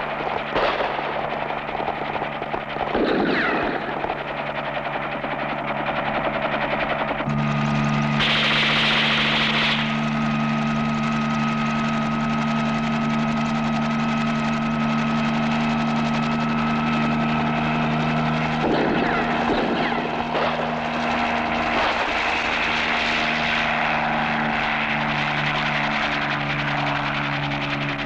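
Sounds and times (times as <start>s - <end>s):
helicopter rotor and engines: 0.0s - 28.0s
high engine whine: 0.0s - 28.0s.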